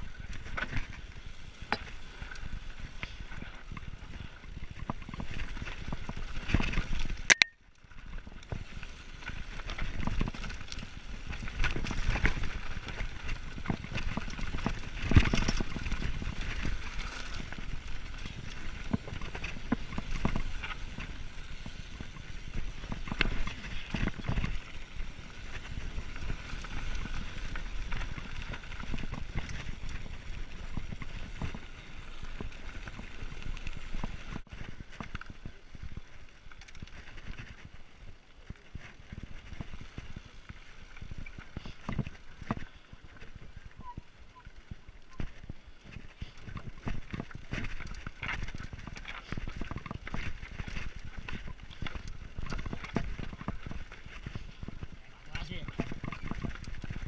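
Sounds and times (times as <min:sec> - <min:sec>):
bike frame rattling: 0:00.0 - 0:57.0
bike tyres crunching on gravel: 0:00.0 - 0:57.0.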